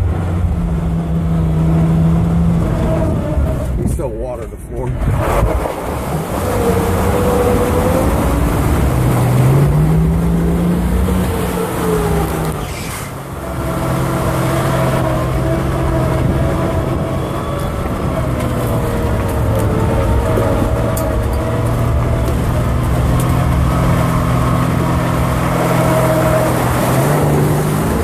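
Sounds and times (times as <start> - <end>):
car engine revving: 0.0 - 4.0, 4.8 - 28.0
water splashing and rushing: 0.0 - 28.0.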